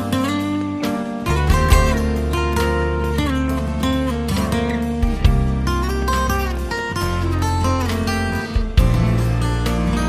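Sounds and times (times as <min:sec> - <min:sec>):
instrumental music with plucked chords: 0:00.0 - 0:10.0.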